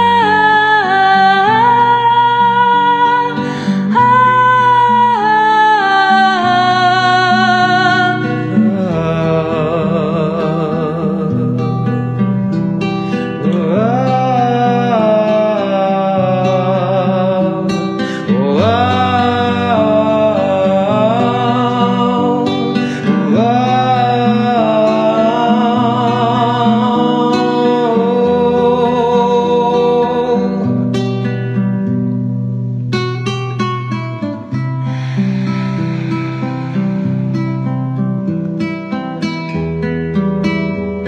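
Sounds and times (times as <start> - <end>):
person singing with vibrato: 0.0 - 12.2, 13.0 - 31.0, 34.3 - 39.1
acoustic guitar chords: 0.0 - 41.0.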